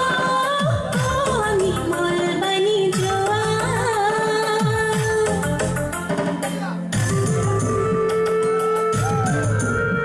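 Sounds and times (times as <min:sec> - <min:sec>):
drums: 0:00.0 - 0:10.0.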